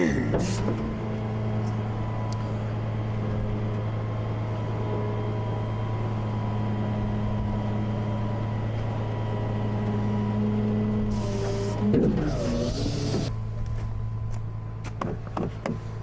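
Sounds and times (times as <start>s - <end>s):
tow truck engine and hydraulics hum: 0.0s - 16.0s.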